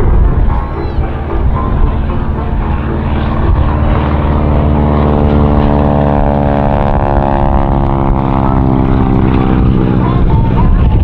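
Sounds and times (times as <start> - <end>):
biplane engine and propeller: 0.0 - 11.0.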